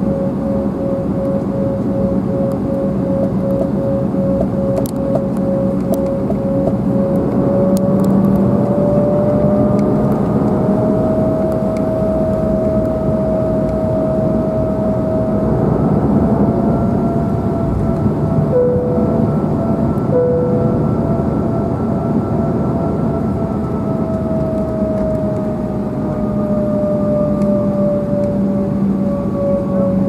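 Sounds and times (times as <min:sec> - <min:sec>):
jet engines whining in cabin: 0:00.0 - 0:30.0.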